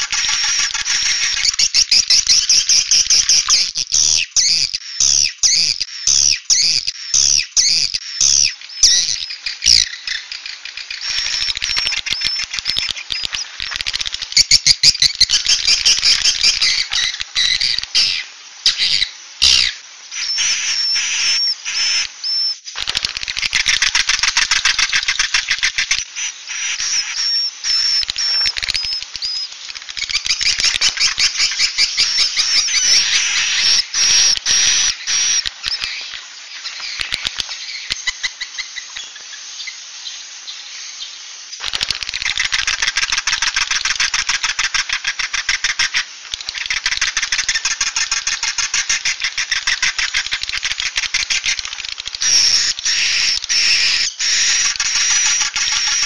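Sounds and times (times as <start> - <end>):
swiftlets chittering and chirping: 0.0 - 39.4, 41.6 - 56.0.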